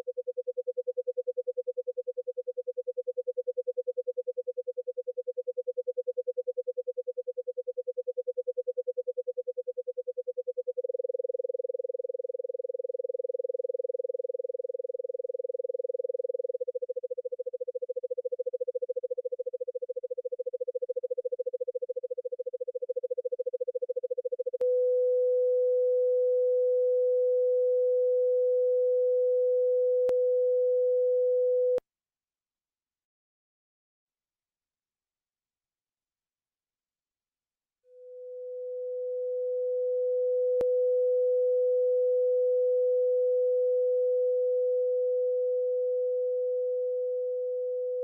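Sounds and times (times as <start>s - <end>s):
pulsing sine tone: 0.0s - 31.8s, 37.9s - 48.0s.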